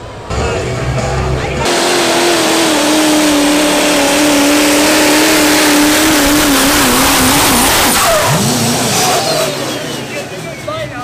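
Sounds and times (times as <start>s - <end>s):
tractor engine at high revs: 1.0s - 10.4s.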